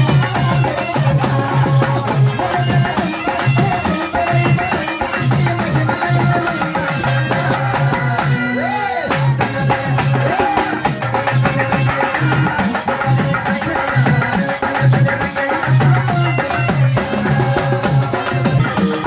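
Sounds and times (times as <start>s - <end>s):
hand drum beating fast rhythm: 0.0s - 19.0s.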